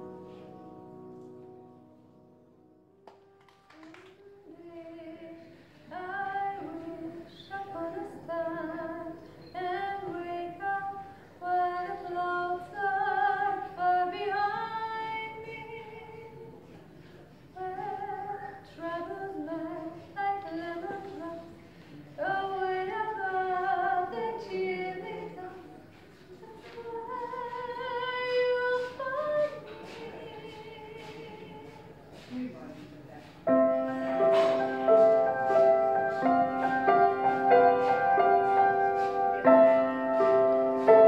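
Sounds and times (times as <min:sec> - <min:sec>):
woman singing with vibrato: 0:03.7 - 0:16.6, 0:17.5 - 0:31.9, 0:33.5 - 0:41.0.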